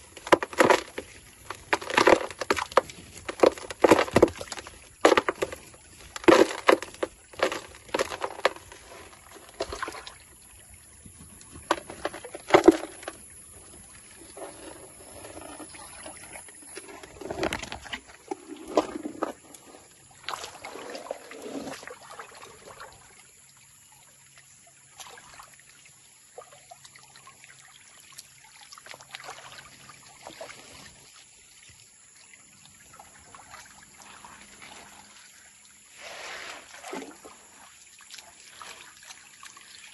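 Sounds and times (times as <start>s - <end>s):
water sloshing and trickling: 0.0s - 39.9s.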